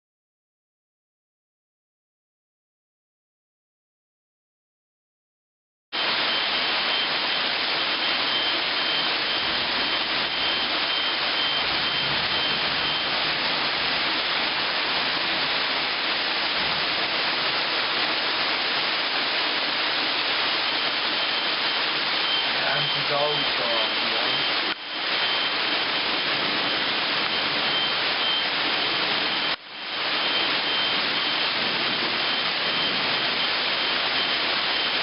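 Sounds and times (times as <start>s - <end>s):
rain falling: 6.3s - 35.0s.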